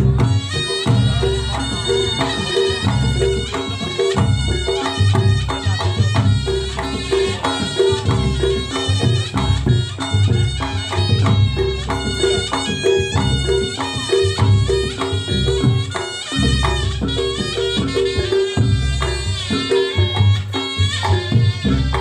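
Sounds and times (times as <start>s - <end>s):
shawm playing reedy melody: 0.0s - 22.0s
steady drumming: 0.0s - 22.0s.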